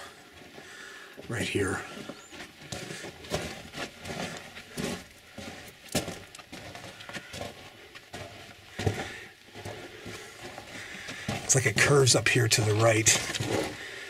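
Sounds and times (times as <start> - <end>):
footsteps crunching on gravel: 0.1 - 14.0.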